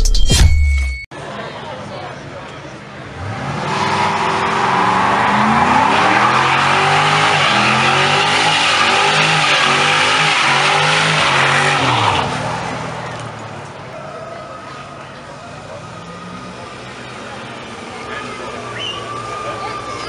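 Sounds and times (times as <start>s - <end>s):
car engine at high revs: 3.0s - 20.0s
tyres squealing on asphalt: 3.1s - 20.0s.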